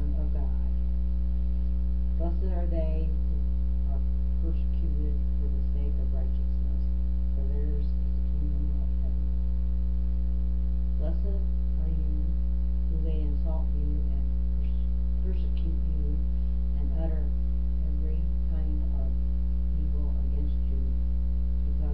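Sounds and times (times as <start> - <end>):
electrical mains hum: 0.0 - 21.9.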